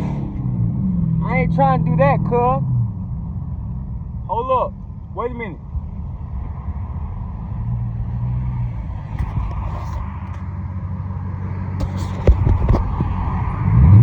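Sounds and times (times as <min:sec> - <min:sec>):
car engine running inside car: 0:00.0 - 0:14.0.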